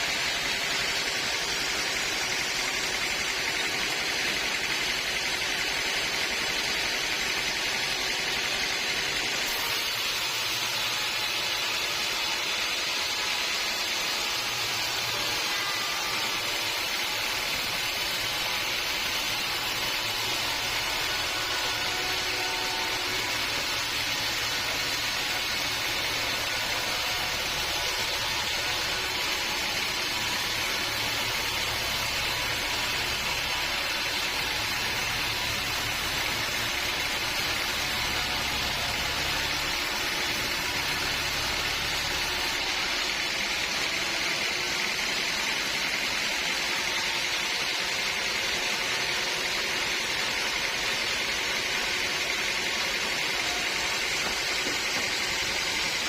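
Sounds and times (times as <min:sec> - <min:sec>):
sawmill machinery whirring: 0:00.0 - 0:56.0.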